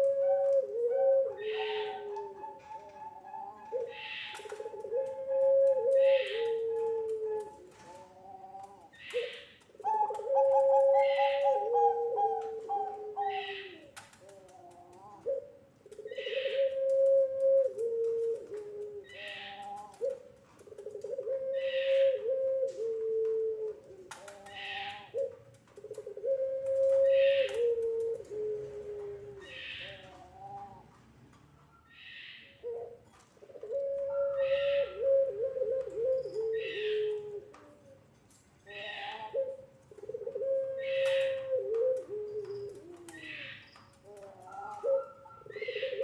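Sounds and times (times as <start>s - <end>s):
dove cooing: 0.0s - 31.0s, 31.9s - 46.0s.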